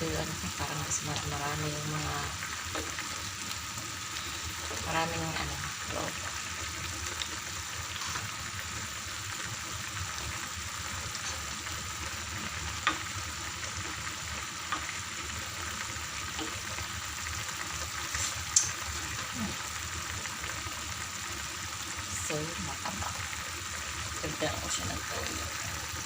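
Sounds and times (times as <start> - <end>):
liquid bubbling in a pan: 0.0 - 26.0.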